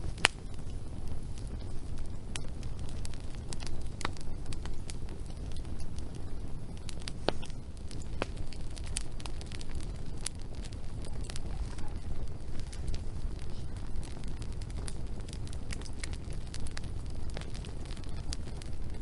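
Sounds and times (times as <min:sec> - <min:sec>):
low rumble: 0:00.0 - 0:19.0
wood fire crackling and popping: 0:00.0 - 0:19.0.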